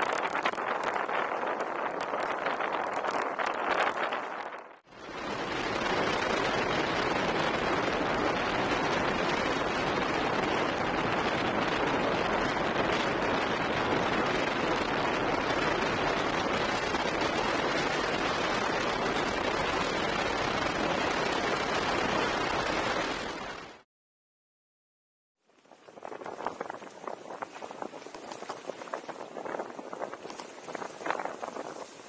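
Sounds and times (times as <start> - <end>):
wind noise on microphone: 0.0 - 23.8, 25.5 - 32.0.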